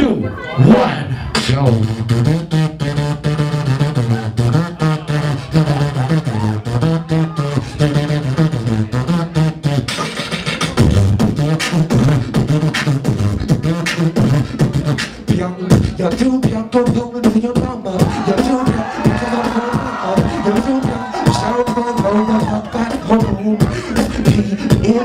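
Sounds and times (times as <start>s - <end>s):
beatboxing into a microphone: 0.0s - 25.0s
person singing: 0.6s - 25.0s.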